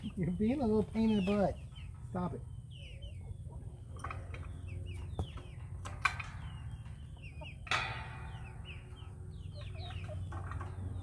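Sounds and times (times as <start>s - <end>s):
chickens chirping: 0.0s - 11.0s.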